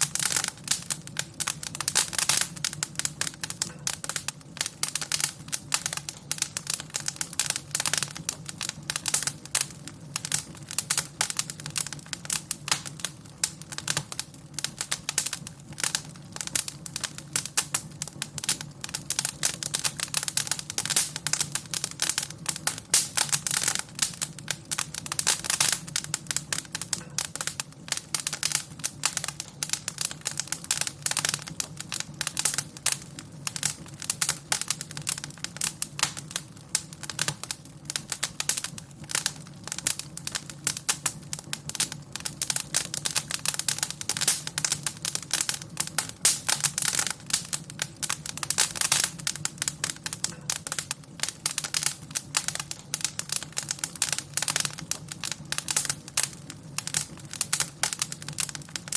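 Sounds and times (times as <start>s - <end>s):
low fire rumble: 0.0s - 58.9s
wood fire crackling: 0.0s - 58.9s.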